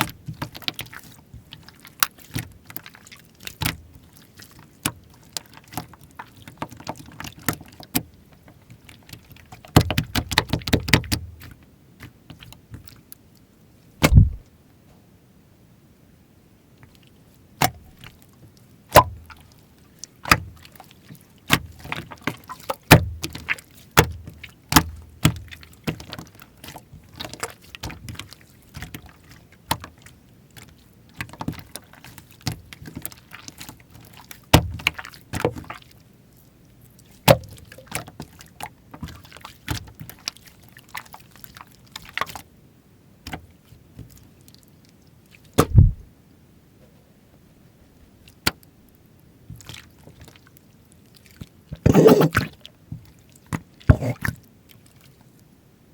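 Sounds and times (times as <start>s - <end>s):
slime squelch: 0.0s - 13.2s, 14.0s - 14.4s, 16.8s - 42.5s, 43.3s - 46.1s, 49.5s - 55.4s.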